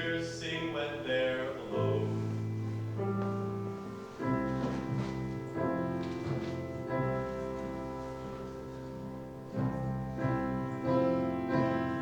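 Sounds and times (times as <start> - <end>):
sustained piano chords: 0.0 - 12.0.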